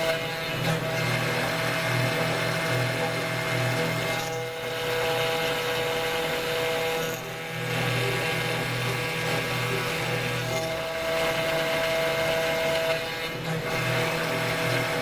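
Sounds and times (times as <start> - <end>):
router spindle milling whine: 0.0 - 15.0.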